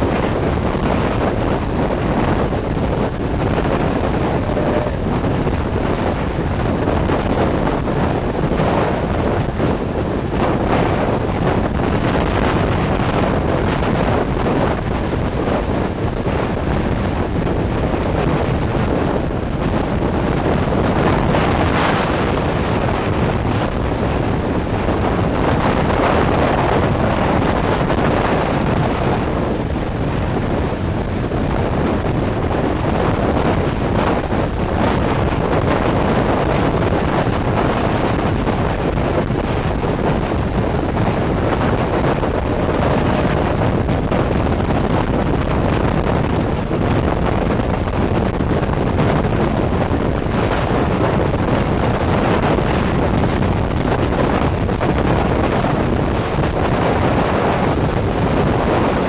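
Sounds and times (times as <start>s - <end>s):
train running noise: 0.0s - 59.0s
wind rushing over microphone: 0.0s - 59.0s.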